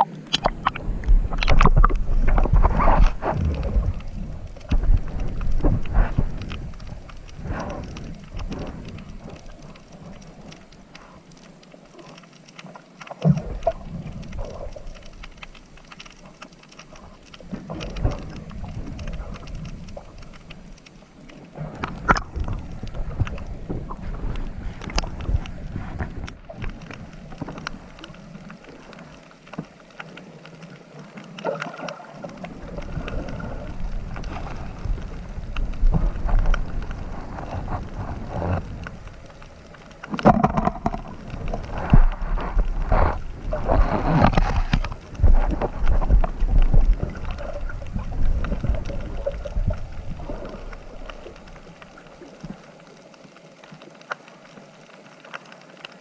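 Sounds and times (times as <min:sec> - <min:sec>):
water rushing and splashing: 0:00.0 - 0:56.0.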